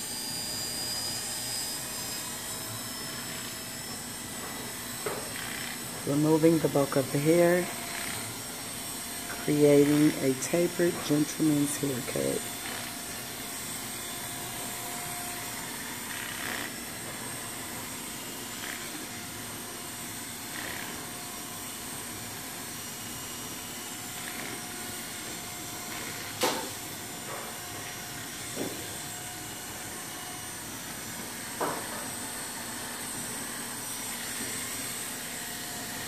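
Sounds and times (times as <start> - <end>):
electric hair clippers running: 0.0 - 36.0.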